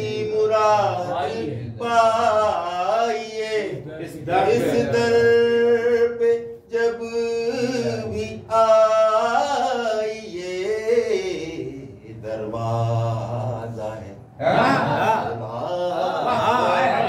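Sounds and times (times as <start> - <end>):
man chanting unaccompanied: 0.0 - 17.0.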